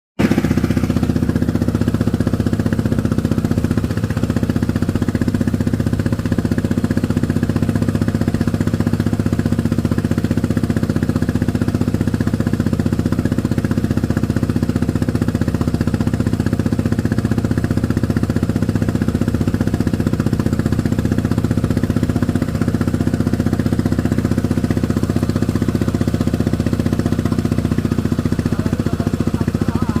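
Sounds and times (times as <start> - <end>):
boat engine running steadily: 0.2 - 30.0.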